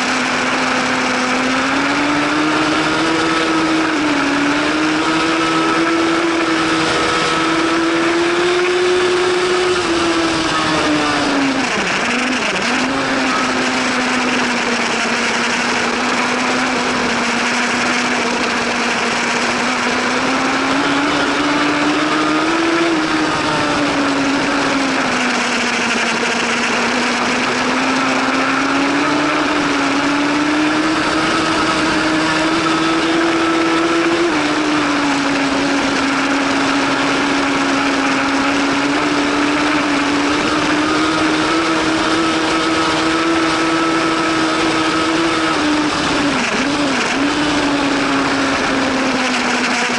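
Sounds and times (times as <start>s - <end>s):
motorcycle engine revving high: 0.0s - 49.9s.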